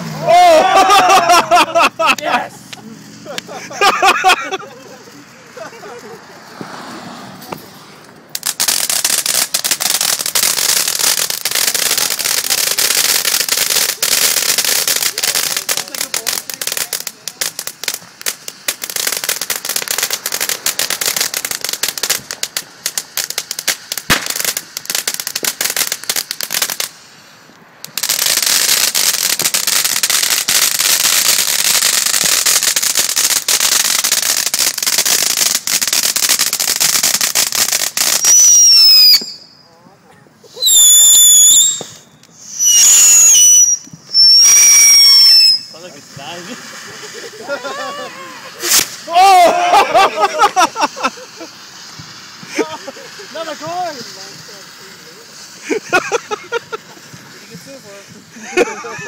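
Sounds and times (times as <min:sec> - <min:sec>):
firecrackers crackling: 0:00.0 - 0:59.0.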